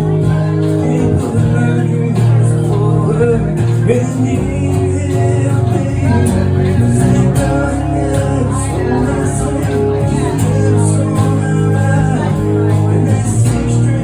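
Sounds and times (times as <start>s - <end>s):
loud band music with guitar: 0.0s - 14.0s.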